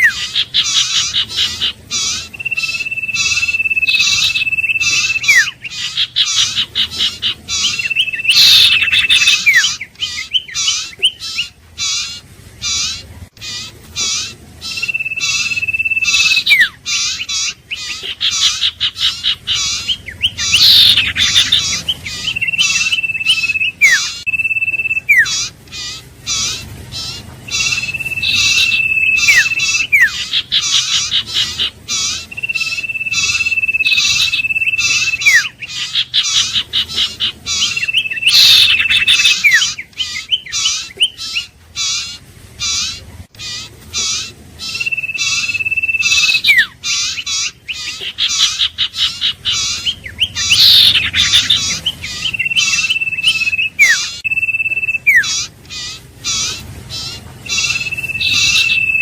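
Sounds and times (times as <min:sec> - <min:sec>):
rapid bird chirping: 0:00.0 - 0:59.0.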